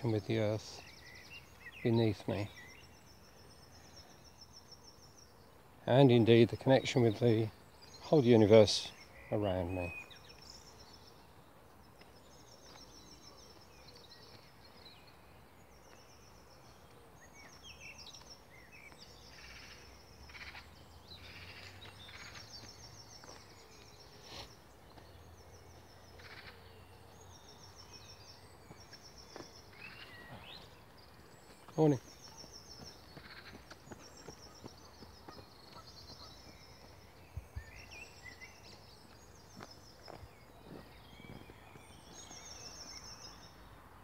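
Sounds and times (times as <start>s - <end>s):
songbirds trilling and chirping: 0.0s - 44.0s.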